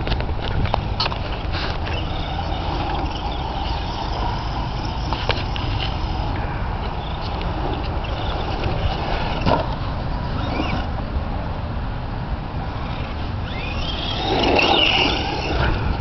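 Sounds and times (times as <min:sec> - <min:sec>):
radio-controlled car motor whine: 0:00.4 - 0:11.0, 0:12.6 - 0:16.0.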